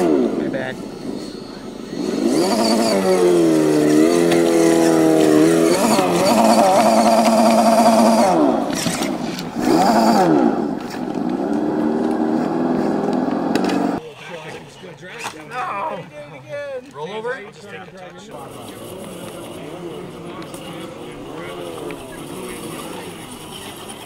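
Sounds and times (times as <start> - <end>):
rc truck motor whining: 0.0 - 14.0, 18.4 - 24.0.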